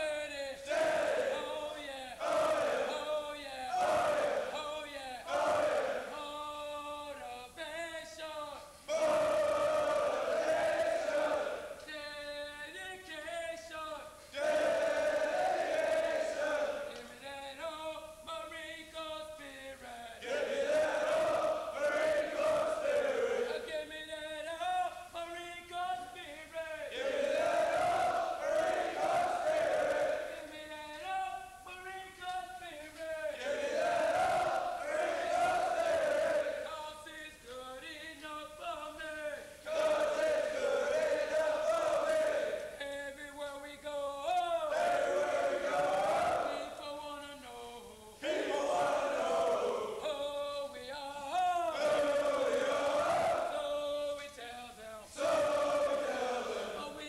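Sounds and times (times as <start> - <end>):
men chanting in unison: 0.0 - 8.3, 8.9 - 17.6, 19.0 - 24.9, 26.2 - 31.3, 32.9 - 43.1, 44.4 - 47.0, 47.9 - 57.0.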